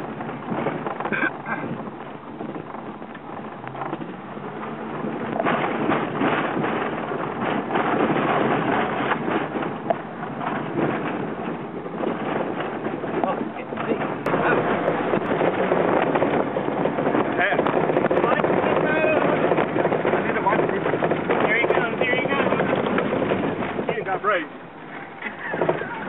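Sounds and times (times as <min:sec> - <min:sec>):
car engine accelerating: 0:00.0 - 0:26.0
knocks and rattles: 0:00.0 - 0:26.0
wind noise: 0:00.0 - 0:26.0.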